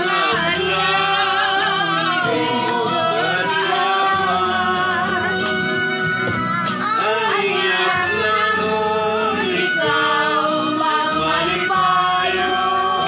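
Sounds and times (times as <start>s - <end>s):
backing music from speaker: 0.0s - 13.0s
people singing together: 0.0s - 13.0s.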